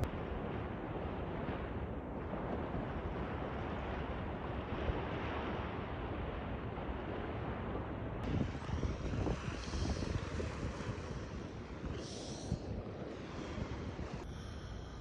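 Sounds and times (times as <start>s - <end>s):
calm sea washing on shore: 0.0s - 15.0s
wind buffeting microphone: 0.0s - 15.0s.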